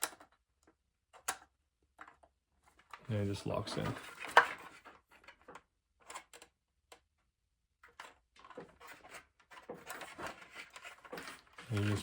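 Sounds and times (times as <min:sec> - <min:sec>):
rustling of parts and cord: 0:00.0 - 0:06.5, 0:07.8 - 0:12.0.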